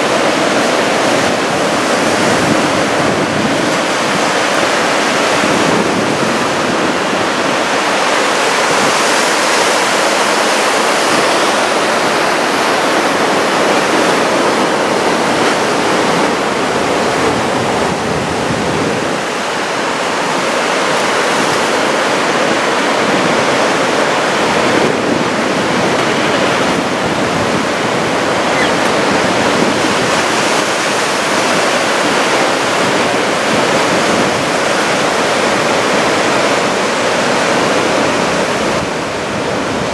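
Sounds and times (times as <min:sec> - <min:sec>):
heavy ocean surf: 0:00.0 - 0:39.9.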